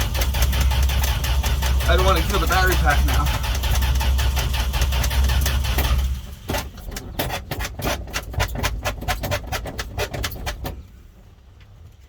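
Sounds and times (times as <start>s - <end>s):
engine cranking without starting: 0.0s - 10.8s.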